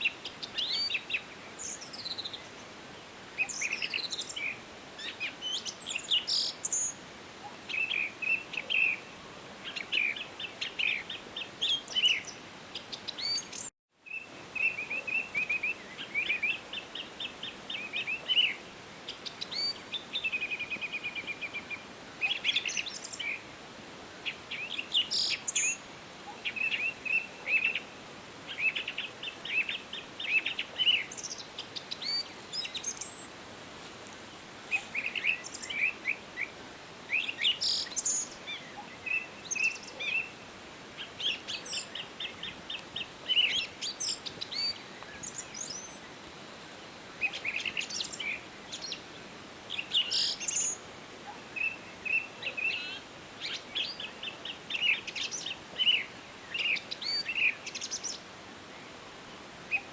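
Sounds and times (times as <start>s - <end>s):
forest birds singing and calling: 0.0s - 23.5s, 24.2s - 46.3s, 47.0s - 59.9s
steady background hiss: 0.0s - 59.9s.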